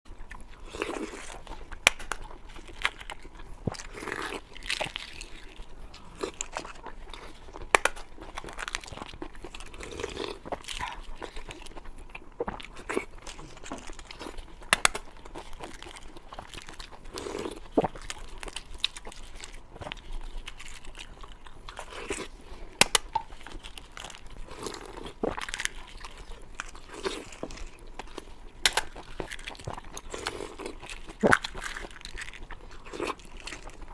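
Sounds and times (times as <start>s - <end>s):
person crunching food: 0.1s - 33.9s.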